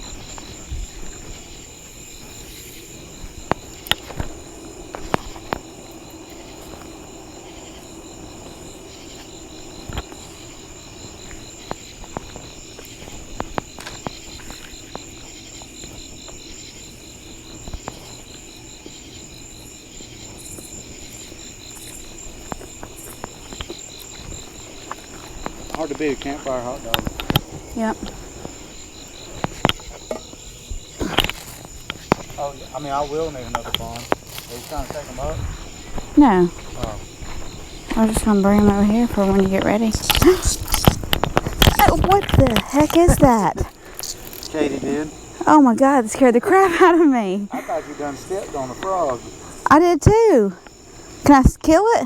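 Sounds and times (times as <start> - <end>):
campfire crackling and popping: 0.0 - 52.0
crickets trilling: 0.0 - 52.0.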